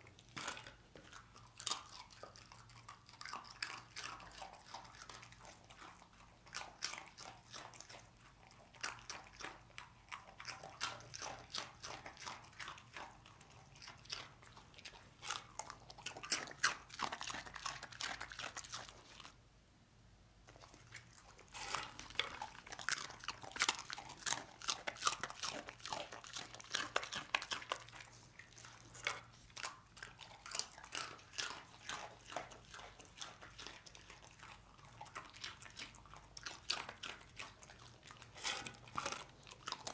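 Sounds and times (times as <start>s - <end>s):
dog crunching dry snacks: 0.0s - 19.4s, 20.6s - 39.9s.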